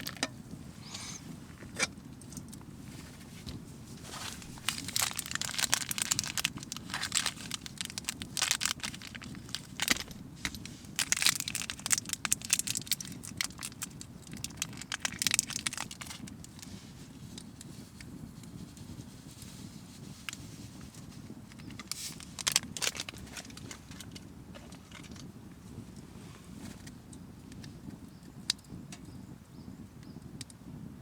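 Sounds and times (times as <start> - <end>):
crunching and crackling clicks: 0.0 - 29.2, 30.0 - 30.6.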